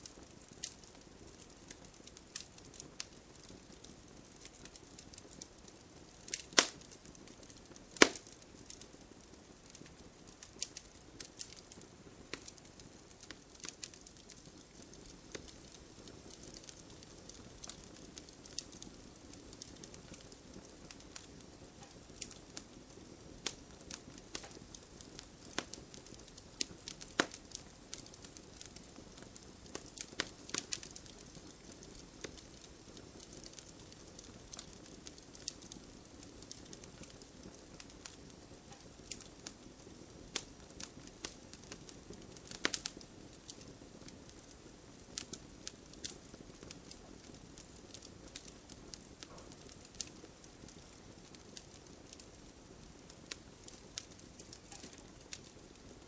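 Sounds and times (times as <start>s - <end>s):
faint rain patter: 0.0s - 56.0s
wood fire crackling and popping: 0.0s - 56.0s.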